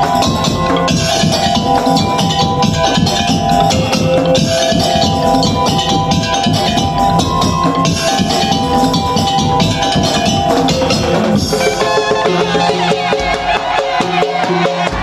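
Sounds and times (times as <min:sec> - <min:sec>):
wavering melodic line: 0:00.0 - 0:13.3
drums and wooden percussion: 0:00.0 - 0:15.0.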